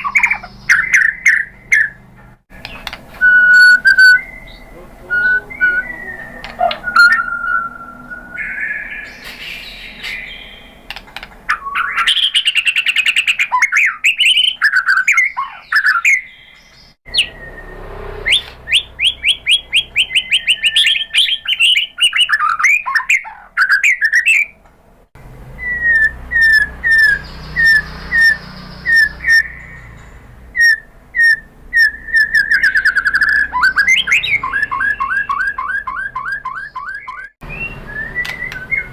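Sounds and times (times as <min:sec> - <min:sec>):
songbird singing whistles and chirps: 0:00.0 - 0:02.0, 0:02.6 - 0:24.6, 0:25.5 - 0:38.9.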